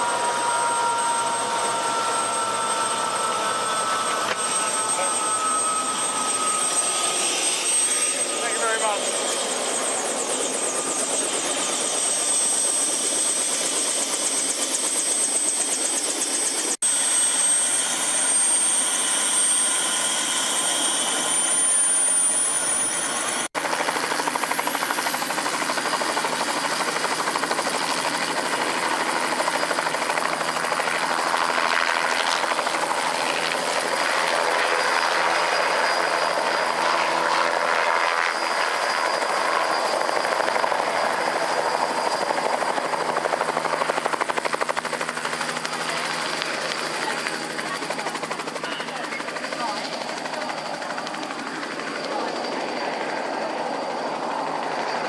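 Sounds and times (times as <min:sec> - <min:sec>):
helicopter engine and rotor: 0:00.0 - 0:55.0
helicopter turbine whine: 0:00.0 - 0:55.0.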